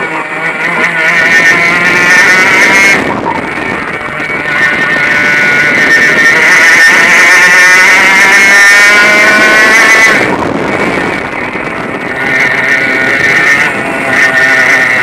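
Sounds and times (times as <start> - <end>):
two-stroke kart engine at full throttle: 0.0 - 15.0.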